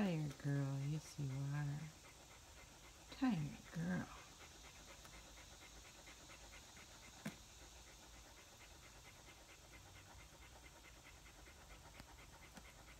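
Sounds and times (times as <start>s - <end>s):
dog panting: 0.0s - 12.9s.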